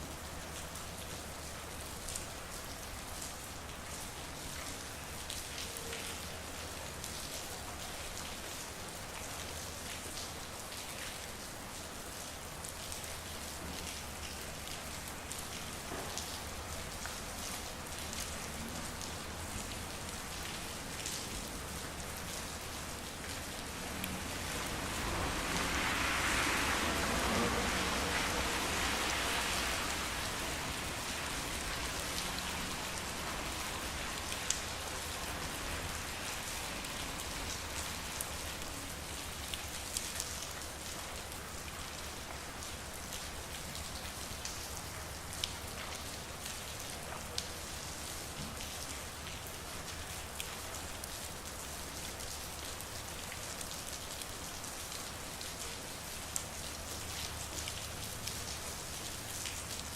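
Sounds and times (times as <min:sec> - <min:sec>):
rain falling on street: 0:00.0 - 0:59.9.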